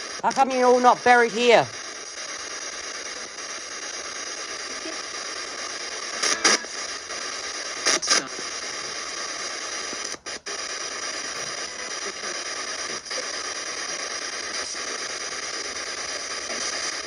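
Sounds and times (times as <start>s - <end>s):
loud static bursts: 0.0s - 17.0s
static hiss: 0.0s - 17.0s.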